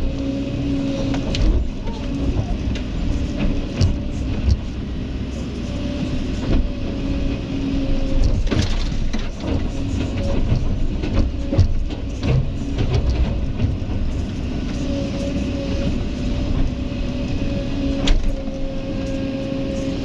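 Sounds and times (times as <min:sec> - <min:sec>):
excavator diesel engine whining: 0:00.0 - 0:20.0.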